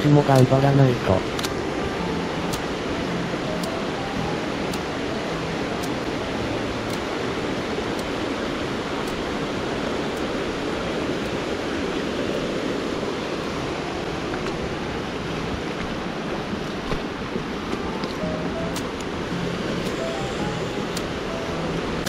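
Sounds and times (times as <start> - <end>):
river flowing: 0.0 - 22.0.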